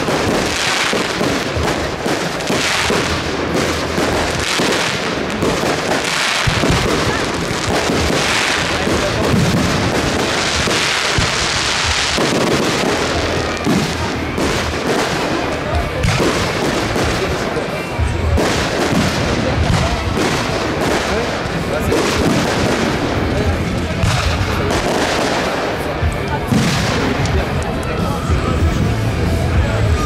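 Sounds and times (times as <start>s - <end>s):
fireworks bangs and crackle: 0.0s - 30.0s
low fireworks booms: 0.0s - 30.0s.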